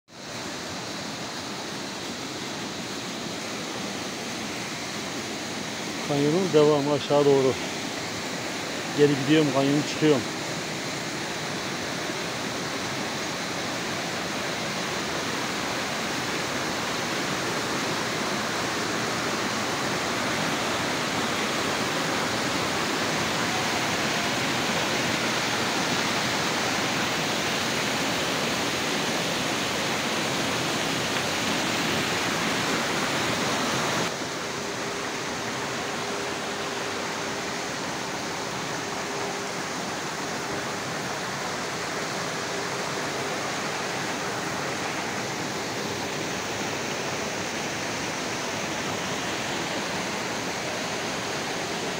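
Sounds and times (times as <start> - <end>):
stream rushing over boulders: 0.1 - 51.9.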